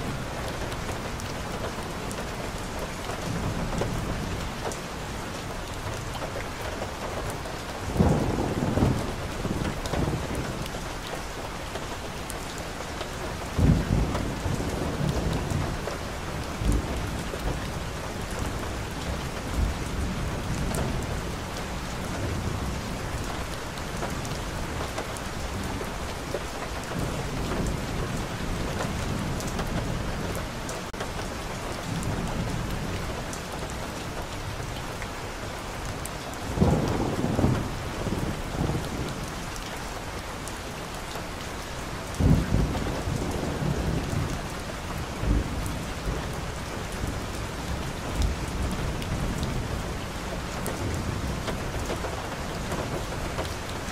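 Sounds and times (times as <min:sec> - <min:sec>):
steady rain on street and leaves: 0:00.0 - 0:53.9.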